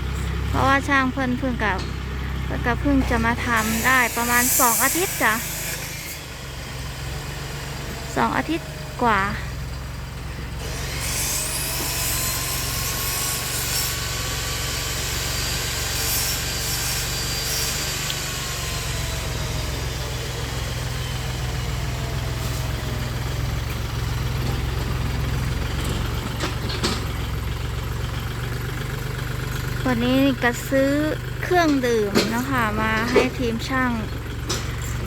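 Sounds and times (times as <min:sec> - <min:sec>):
engine running low rumble: 0:00.0 - 0:13.0, 0:14.0 - 0:35.0.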